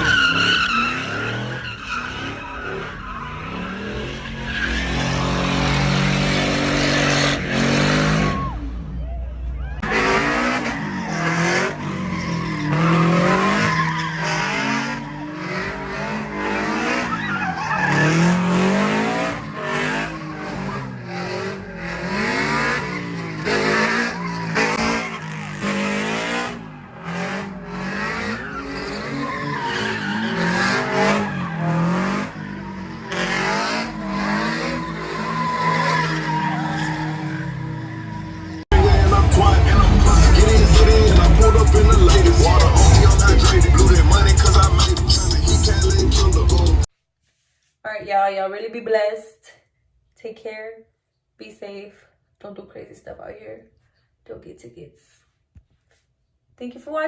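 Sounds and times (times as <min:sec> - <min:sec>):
car engine revving: 0:00.0 - 0:46.9
tires squealing on pavement: 0:00.0 - 0:46.9.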